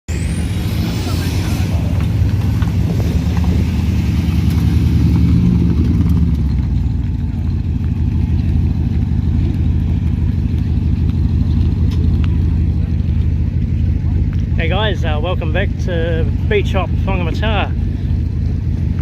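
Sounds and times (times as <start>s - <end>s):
vehicle engine running: 0.1s - 19.0s.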